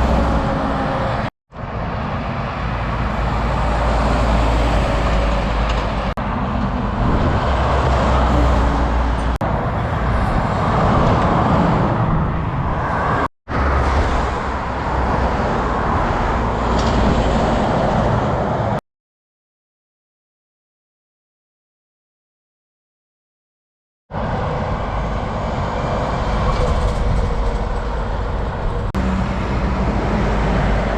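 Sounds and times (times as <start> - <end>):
heavy vehicle engine rumble: 0.0 - 18.8, 24.1 - 30.9.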